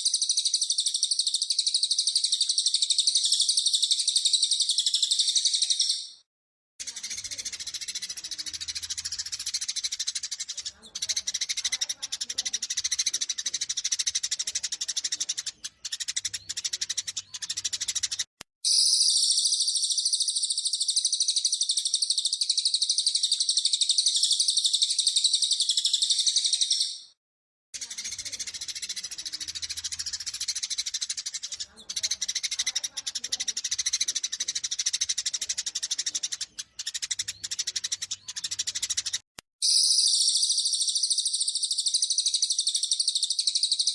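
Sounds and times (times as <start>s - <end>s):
high bird trill: 0.0s - 6.2s, 6.8s - 27.2s, 27.8s - 43.9s
sparrows chirping rapidly: 0.0s - 27.2s, 27.8s - 43.9s.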